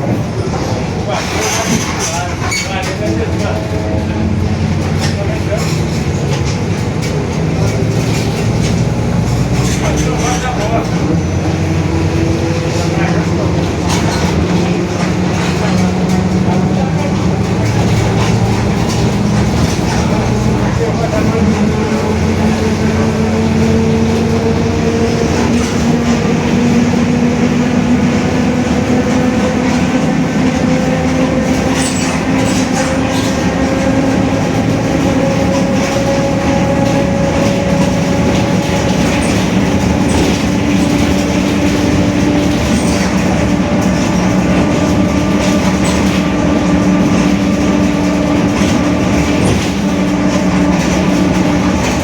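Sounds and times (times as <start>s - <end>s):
bus differential whine: 0.0s - 52.0s
diesel engine running: 0.0s - 52.0s.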